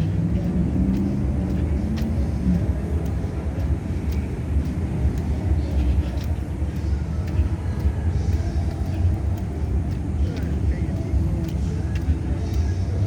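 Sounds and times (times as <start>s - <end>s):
faint ticks: 0.0s - 13.0s
passing traffic rumble: 0.0s - 13.0s.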